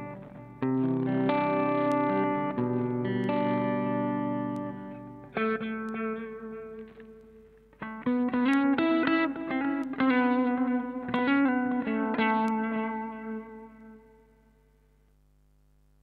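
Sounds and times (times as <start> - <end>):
electric guitar chords and notes: 0.0 - 14.7.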